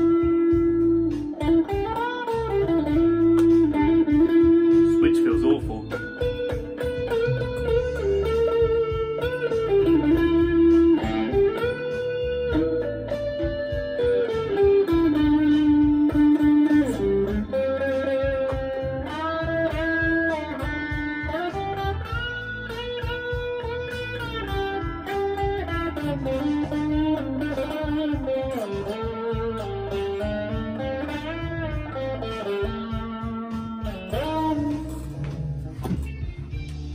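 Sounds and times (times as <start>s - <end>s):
bass and drums backing track: 0.0s - 36.9s
electric guitar lead lines: 0.0s - 36.9s.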